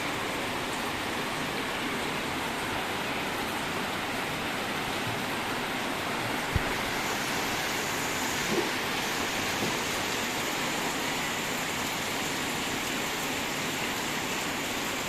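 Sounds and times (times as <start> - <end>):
heavy rain hissing: 0.1 - 15.0.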